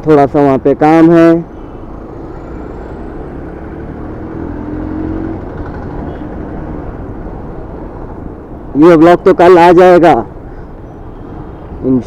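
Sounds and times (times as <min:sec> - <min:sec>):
motorcycle engine hum: 0:00.0 - 0:12.0
road noise: 0:00.0 - 0:12.0.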